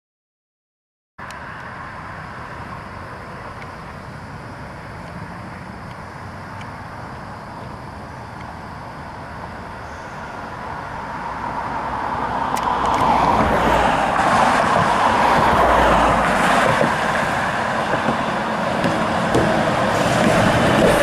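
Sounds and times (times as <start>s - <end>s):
cars passing: 1.2s - 21.0s
electric trolleybus passing: 1.2s - 21.0s.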